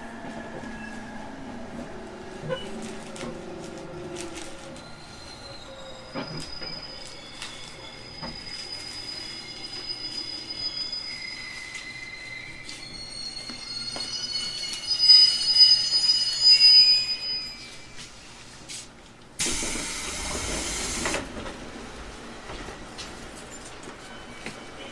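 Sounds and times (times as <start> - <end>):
train low rumble: 0.0 - 15.6, 17.6 - 24.9.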